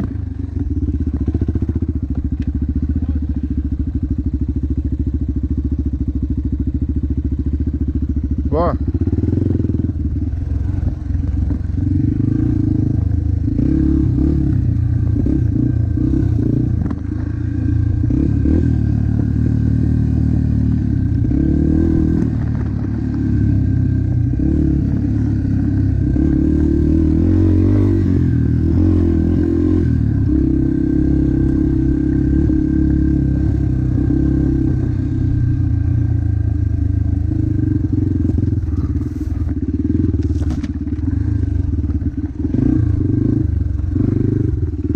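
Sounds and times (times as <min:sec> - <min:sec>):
motocross bike engine revving: 0:08.3 - 0:44.9.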